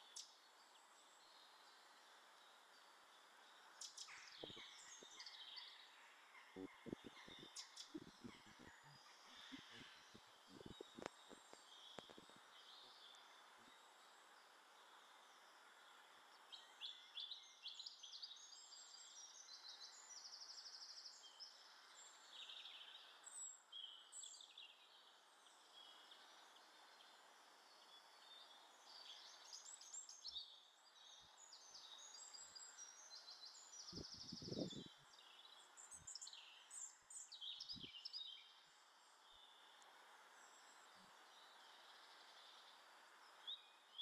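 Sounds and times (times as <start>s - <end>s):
songbirds chirping and trilling: 0.0s - 44.0s
steady background hiss: 0.0s - 44.0s.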